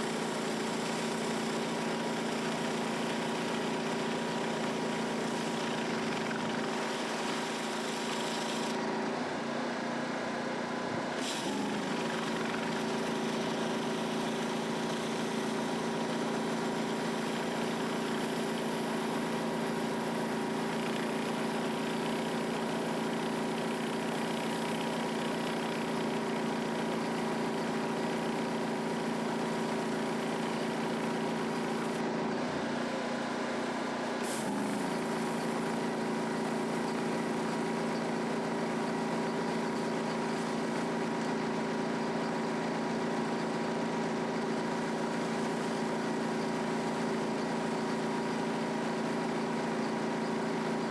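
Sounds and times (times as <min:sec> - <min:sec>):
pressure washer engine running: 0:00.0 - 0:09.6, 0:11.2 - 0:32.7, 0:34.2 - 0:50.9.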